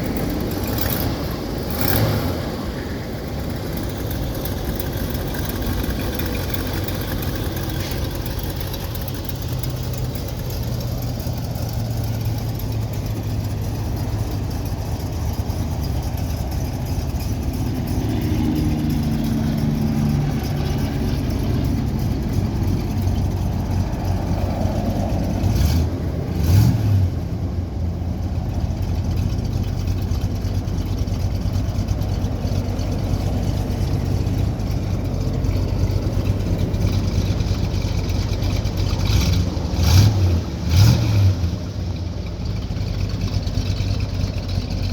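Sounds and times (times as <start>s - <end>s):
car engine running: 0.0s - 44.9s.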